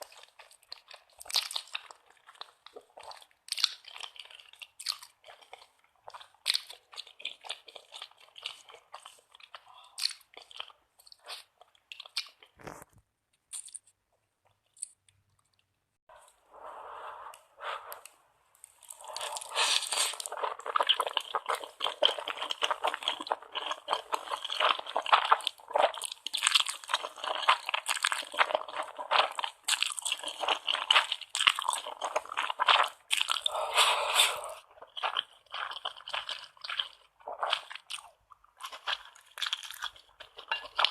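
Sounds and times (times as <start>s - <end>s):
wet chewing: 0.0s - 12.8s, 18.0s - 40.9s.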